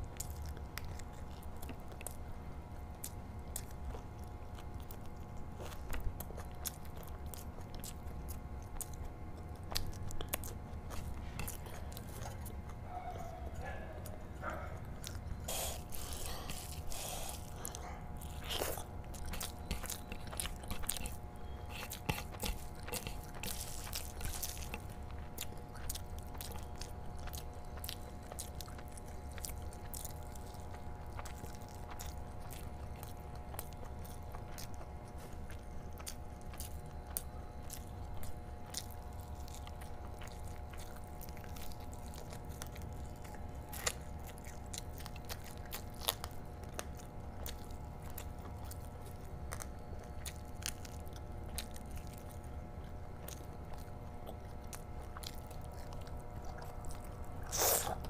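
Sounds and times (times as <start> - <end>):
chewing with wet mouth clicks: 0.0 - 58.0
faint steady hum: 0.0 - 58.0.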